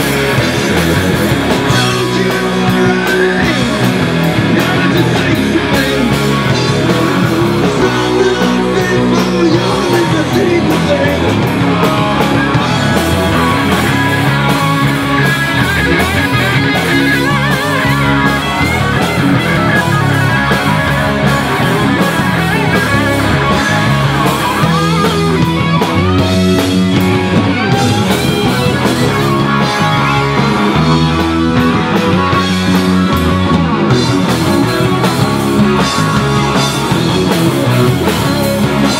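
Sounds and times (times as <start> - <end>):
bass guitar: 0.0 - 38.9
drum kit: 0.0 - 38.9
electric guitars: 0.0 - 38.9.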